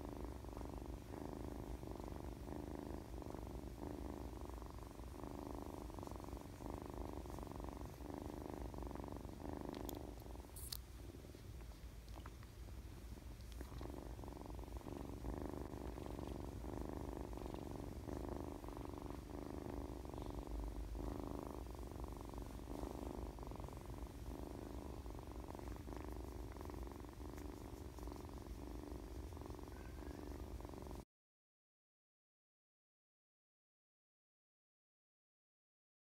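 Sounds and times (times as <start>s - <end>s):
kitten purring: 0.0s - 31.1s.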